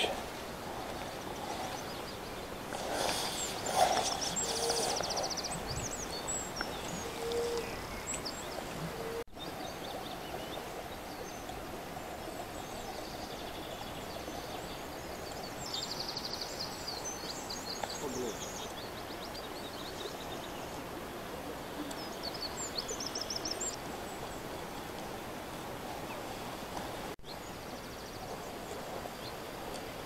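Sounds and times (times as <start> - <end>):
small birds singing: 0.0 - 25.3, 27.2 - 30.0
steady outdoor hiss: 0.0 - 30.0.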